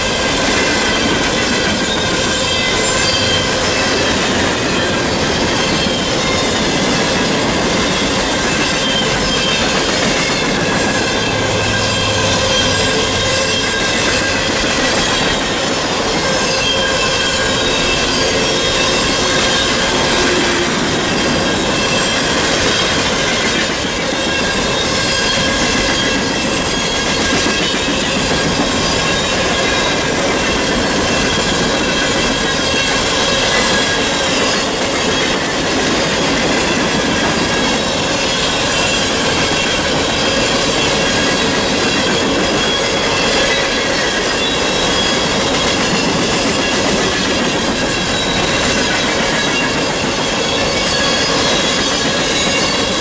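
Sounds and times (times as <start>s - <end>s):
high wheel squeal: 0.0s - 53.0s
train wheels rumbling on rails: 0.0s - 53.0s.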